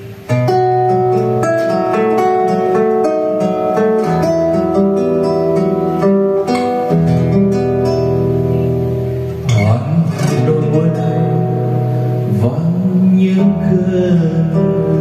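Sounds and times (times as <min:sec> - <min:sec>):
acoustic guitar plucked melody: 0:00.0 - 0:15.0.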